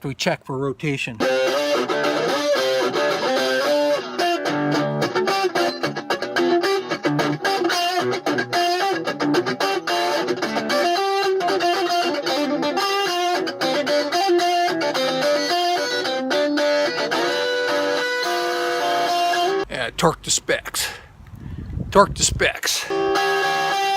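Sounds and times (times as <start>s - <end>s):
electric guitar music: 1.2s - 19.7s, 22.9s - 23.9s.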